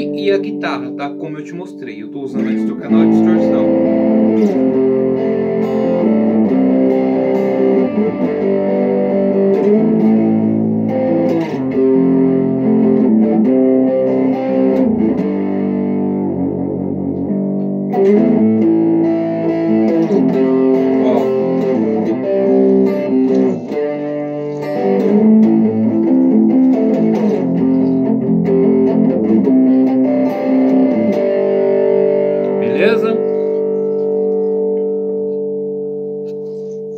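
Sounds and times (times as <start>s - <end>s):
distorted electric guitar chords: 0.0s - 36.9s.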